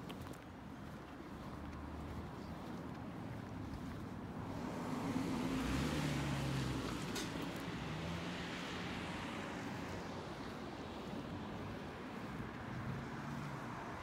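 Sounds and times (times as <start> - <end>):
outdoor street noise: 0.0 - 14.0
vehicle passing: 0.8 - 14.0.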